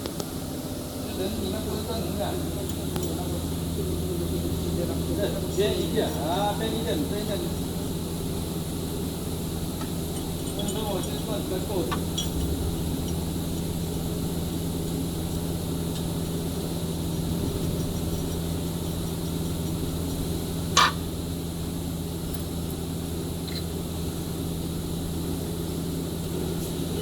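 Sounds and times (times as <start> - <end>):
machinery humming: 0.0 - 27.0.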